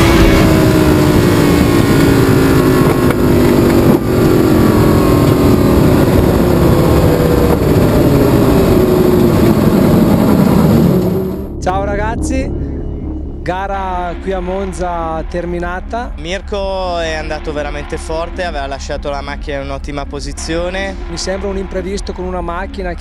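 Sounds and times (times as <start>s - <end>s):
race car engine running hard: 0.0s - 11.6s, 14.1s - 23.0s.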